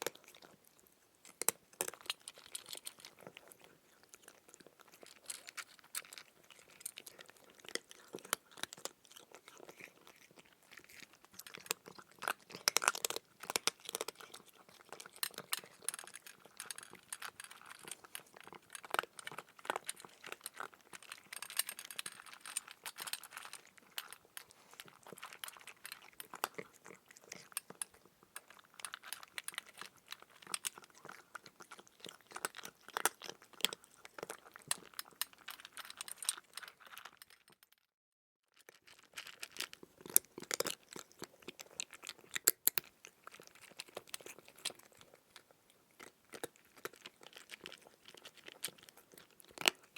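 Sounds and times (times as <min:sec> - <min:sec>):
chewing crunchy food: 0:00.0 - 0:37.9, 0:38.5 - 0:49.9.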